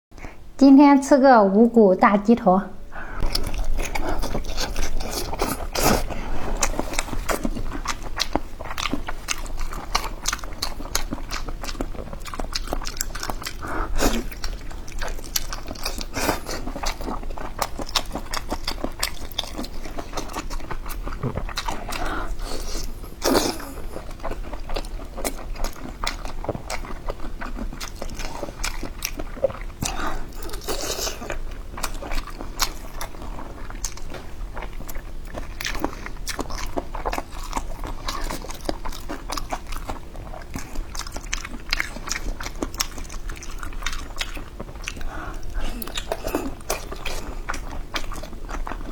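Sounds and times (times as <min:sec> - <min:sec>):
close chewing and biting: 0:03.2 - 0:48.9.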